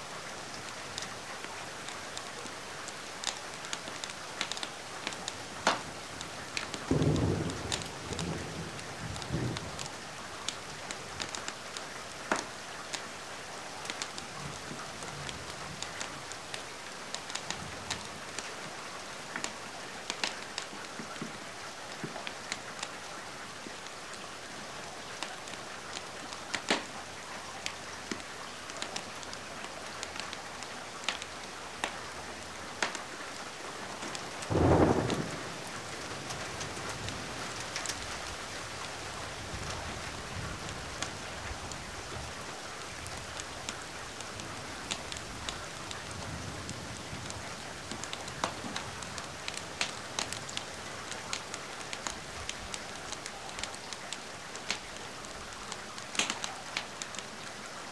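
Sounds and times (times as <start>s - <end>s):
rain hiss: 0.0s - 57.9s
wood fire crackling: 0.2s - 13.0s, 13.7s - 23.0s, 25.0s - 57.5s.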